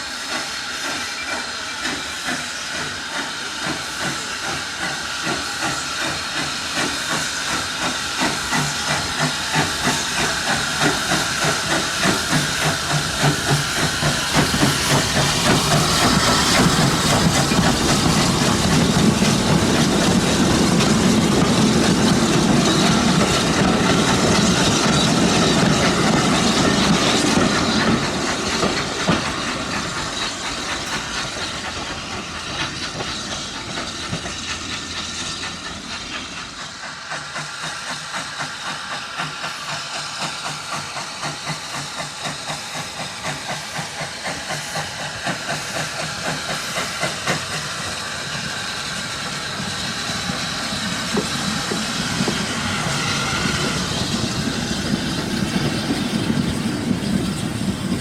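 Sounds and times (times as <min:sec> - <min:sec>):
steam locomotive hissing: 0:00.0 - 0:58.0
train chuffing beat: 0:00.0 - 0:58.0.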